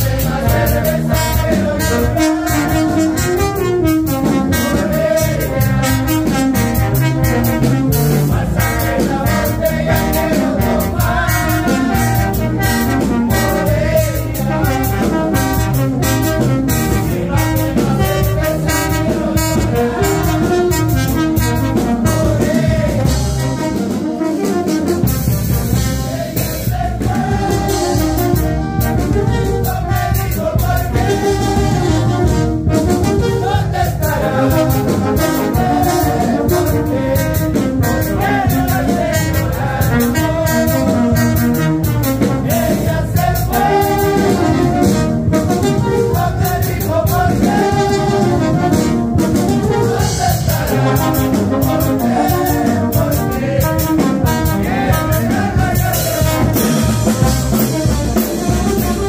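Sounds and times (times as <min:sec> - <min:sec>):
men singing: 0:00.0 - 0:24.0, 0:25.7 - 0:59.0
brass band playing: 0:00.0 - 0:59.0
drums and cymbals: 0:00.0 - 0:59.0.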